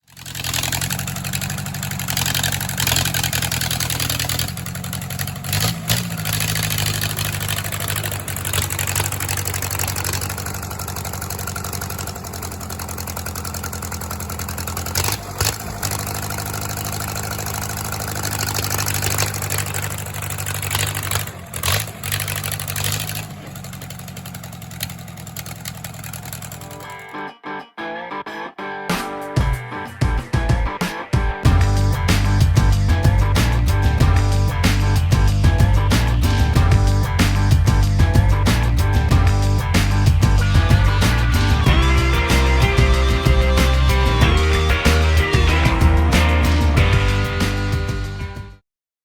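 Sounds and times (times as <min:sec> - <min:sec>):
bulldozer engine idling and revving: 0:00.0 - 0:27.1, 0:31.5 - 0:48.6.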